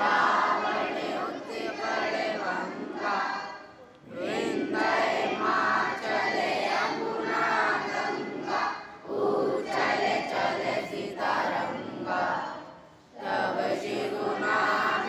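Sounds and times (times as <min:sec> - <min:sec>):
children and adults singing in unison: 0:00.0 - 0:15.0.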